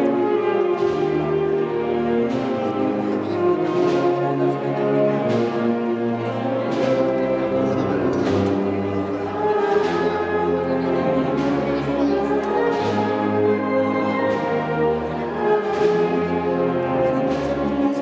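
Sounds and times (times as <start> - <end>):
brass band playing slow march: 0.0 - 18.0
percussion strikes: 0.0 - 18.0.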